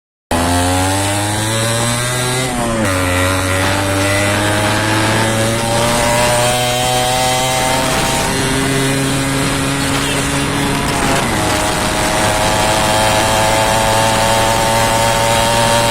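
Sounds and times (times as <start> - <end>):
two-stroke engine running under load: 0.3 - 15.9.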